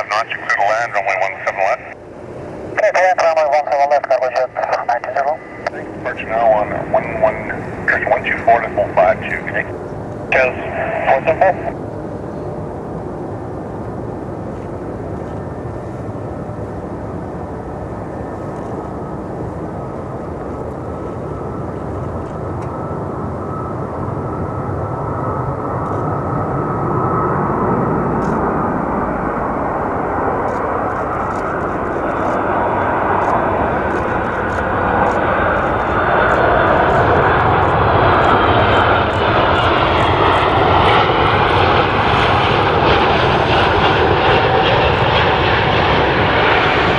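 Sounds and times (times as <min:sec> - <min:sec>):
jet engines rumbling with high whine: 0:00.0 - 0:46.9.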